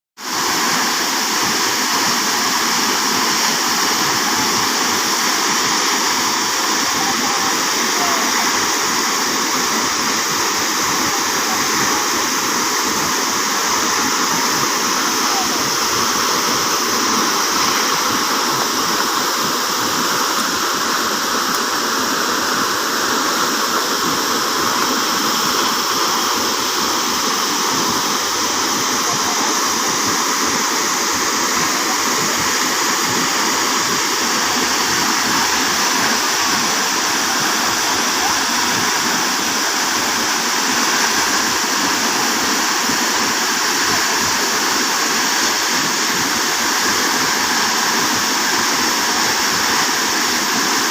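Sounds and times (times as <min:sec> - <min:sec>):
waterfall rushing: 0:00.2 - 0:50.9.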